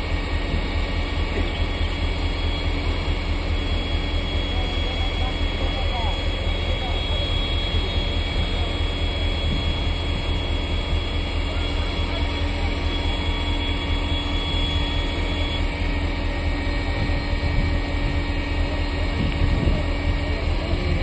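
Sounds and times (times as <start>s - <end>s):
machine engine rumbling: 0.0s - 21.0s
thin high whine: 1.3s - 21.0s.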